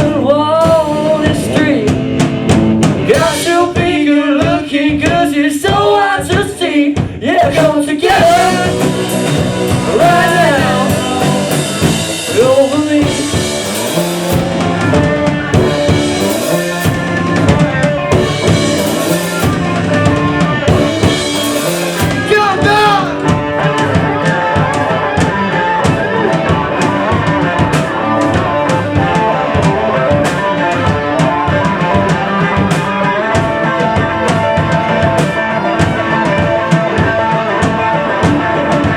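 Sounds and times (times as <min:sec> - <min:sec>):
drum kit beat: 0:00.0 - 0:38.9
rock band playing live: 0:00.0 - 0:38.9.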